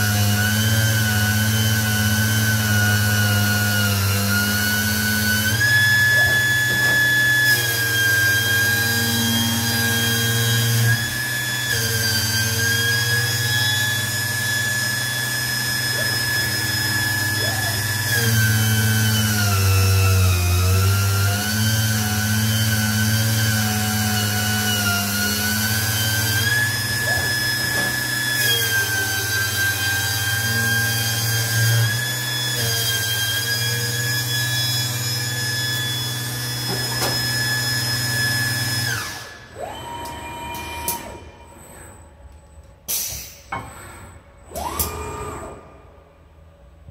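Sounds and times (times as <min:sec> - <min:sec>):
grinding machine whine: 0:00.0 - 0:42.7
robot arm motors whining: 0:00.0 - 0:46.3.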